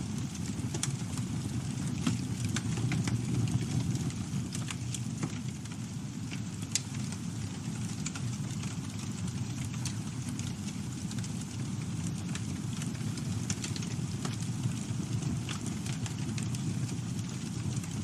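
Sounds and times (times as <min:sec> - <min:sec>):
burning wood crackling and popping: 0:00.0 - 0:18.0
campfire flames rumbling: 0:00.0 - 0:18.0.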